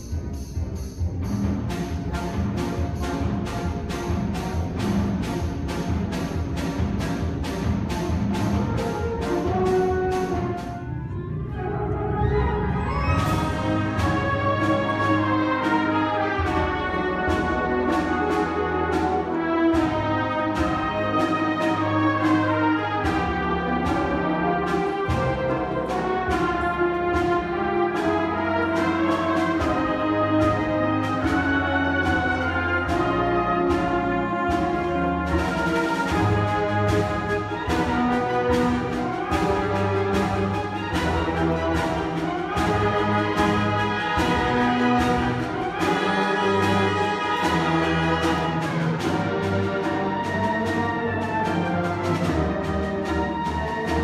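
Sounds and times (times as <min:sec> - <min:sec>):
concert band playing: 0:00.0 - 0:54.0.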